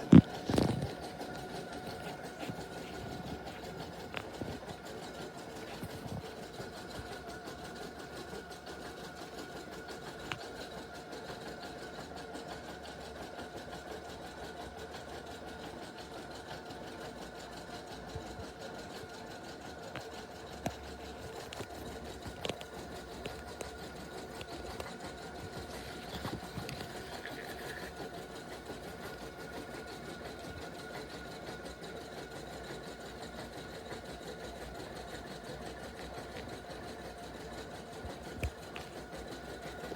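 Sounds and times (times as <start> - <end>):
embroidery machine motor hum: 0.0 - 12.8, 17.9 - 39.9.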